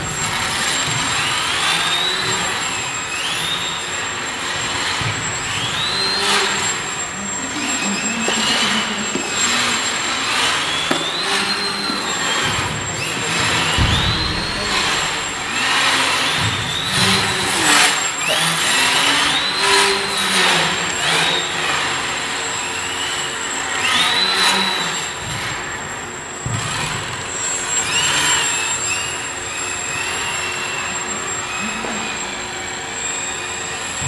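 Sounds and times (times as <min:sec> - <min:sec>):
constant high whine: 0:00.0 - 0:34.0
stepper motor whine: 0:00.0 - 0:34.0.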